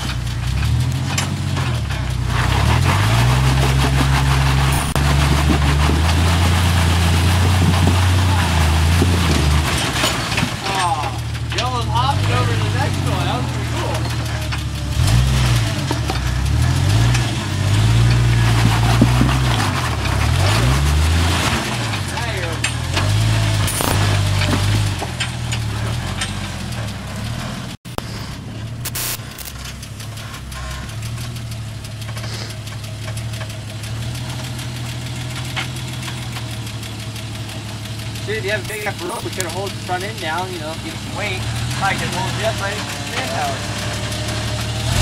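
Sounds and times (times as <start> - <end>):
engine revving at low revs: 0.0 - 45.0.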